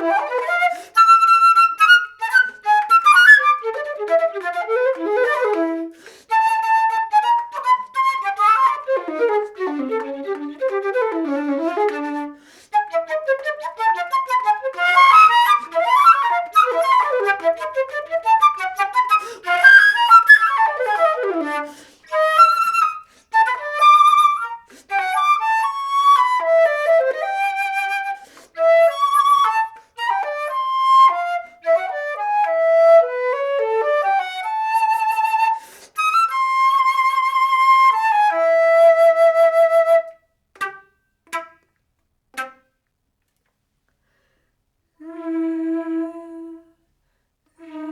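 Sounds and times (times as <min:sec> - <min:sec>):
solo flute playing: 0:00.0 - 0:41.7, 0:42.4 - 0:42.8, 0:45.0 - 0:46.8, 0:47.6 - 0:47.9.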